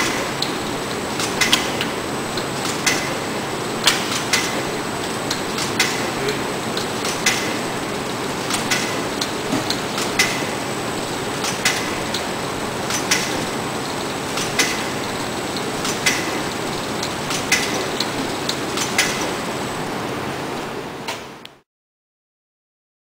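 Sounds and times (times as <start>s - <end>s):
machine whirring: 0.0s - 21.4s.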